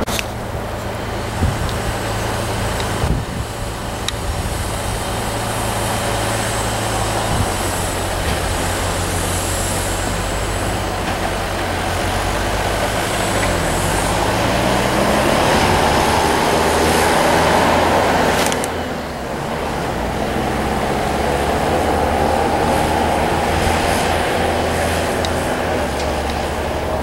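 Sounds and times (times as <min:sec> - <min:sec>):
tractor diesel engine: 0:00.0 - 0:27.0.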